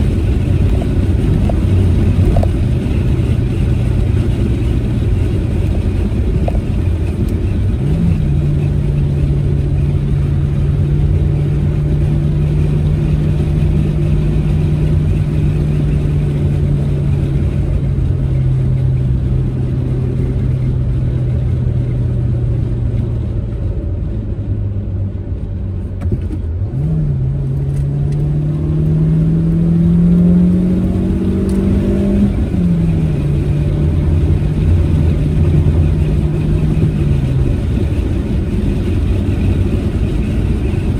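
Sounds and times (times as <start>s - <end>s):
car engine: 0.0s - 40.9s
tyre noise on road: 0.0s - 40.9s.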